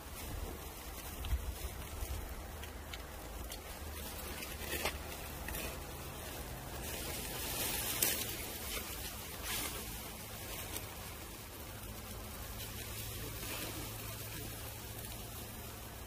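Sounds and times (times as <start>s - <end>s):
meat sizzling on a grill: 0.0s - 16.0s.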